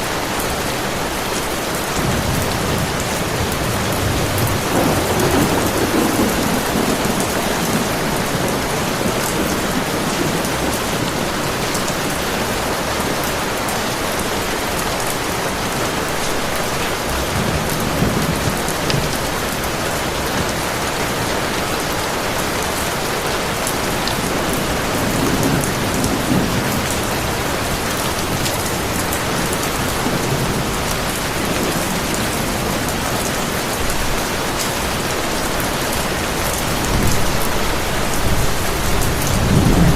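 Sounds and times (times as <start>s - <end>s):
heavy rain pouring: 0.0s - 39.9s
distant thunder rumbling: 1.9s - 12.7s, 16.0s - 21.2s, 23.6s - 39.9s.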